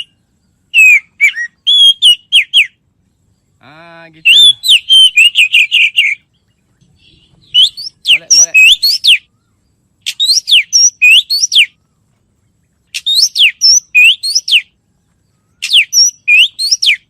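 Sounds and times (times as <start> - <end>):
bird whistling song: 0.0 - 17.0.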